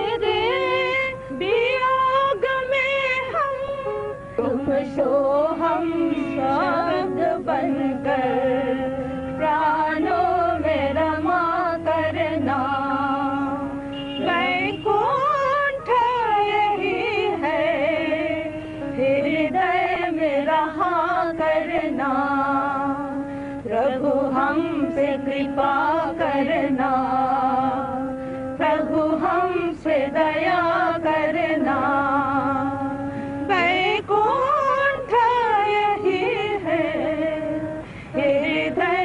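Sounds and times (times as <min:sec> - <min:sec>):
musical accompaniment: 0:00.0 - 0:39.0
person singing devotional song: 0:00.0 - 0:39.0.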